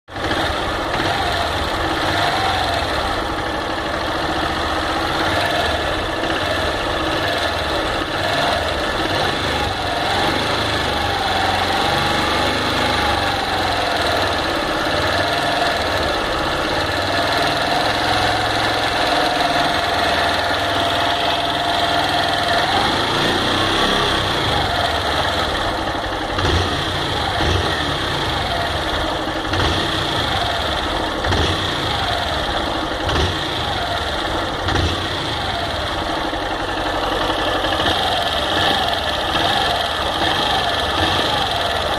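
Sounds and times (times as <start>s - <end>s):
abnormal engine noise: 0.1s - 41.9s
motorcycle engine running: 0.1s - 41.9s.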